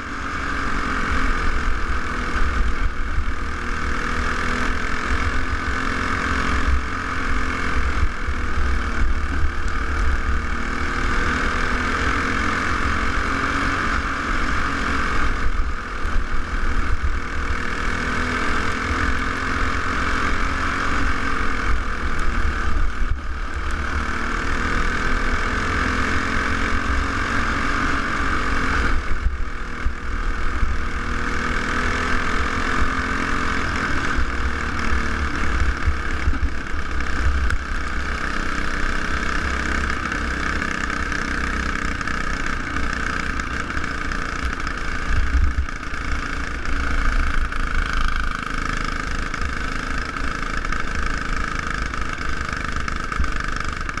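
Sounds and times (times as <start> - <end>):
kart engine running hard: 0.0 - 54.0.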